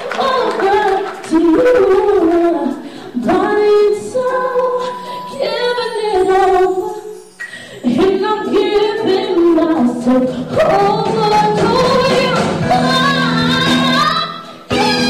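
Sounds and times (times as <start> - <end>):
woman singing into a microphone: 0.0 - 15.0.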